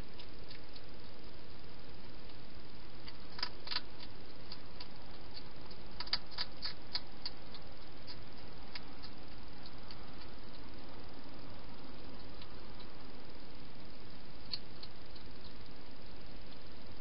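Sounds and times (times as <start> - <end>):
hedgehog crunching food: 0.0 - 16.8
steady hiss: 0.0 - 17.0.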